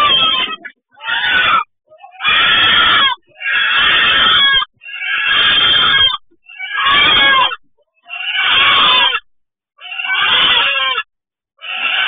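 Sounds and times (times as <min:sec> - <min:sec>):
chicken distress cries: 0:00.0 - 0:12.0.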